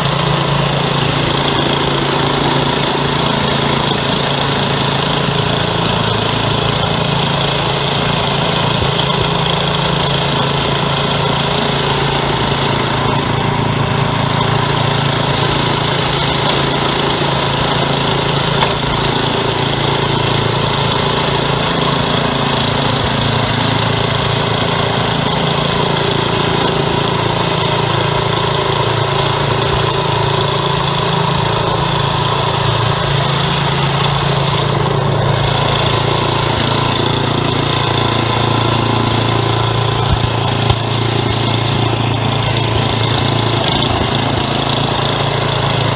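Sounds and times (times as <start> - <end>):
snowblower engine running: 0.0 - 45.9.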